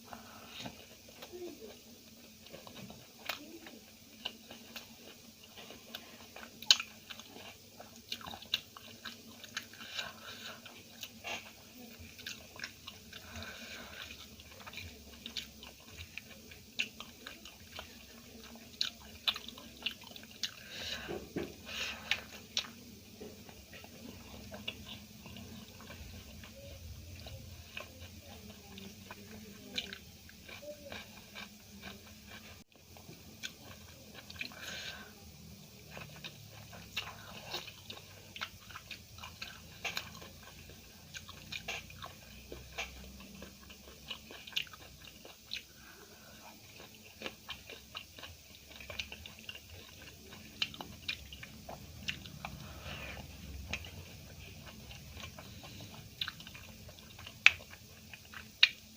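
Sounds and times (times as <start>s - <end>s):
food crackling: 0.0s - 58.9s
person chewing food: 0.0s - 58.9s.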